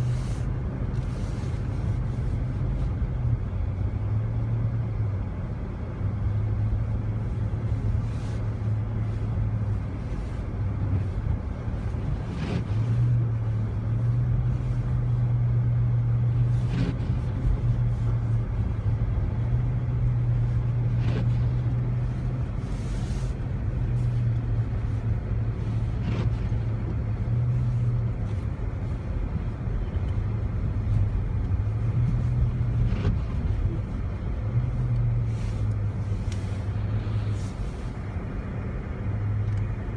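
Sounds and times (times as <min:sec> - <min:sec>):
car engine and tyres droning: 0:00.0 - 0:39.9.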